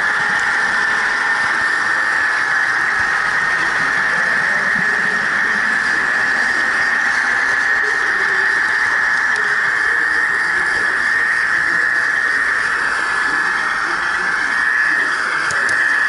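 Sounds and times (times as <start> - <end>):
model train whine: 0.0 - 16.0.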